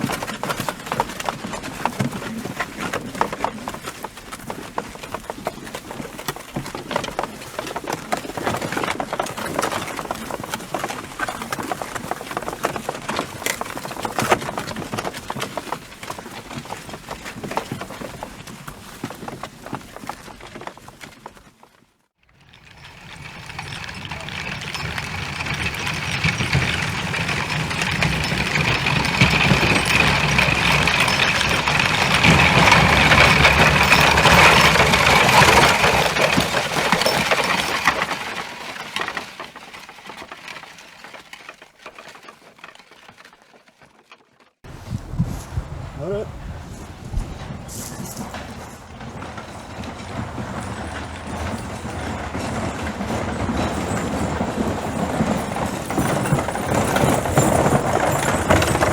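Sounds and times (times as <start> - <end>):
horse hooves galloping: 0.0 - 58.9.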